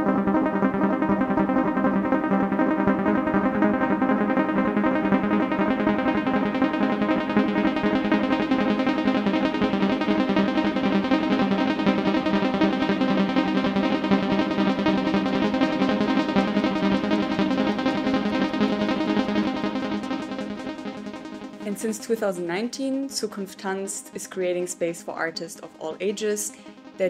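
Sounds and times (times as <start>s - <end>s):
background music with sustained chords: 0.0s - 27.0s.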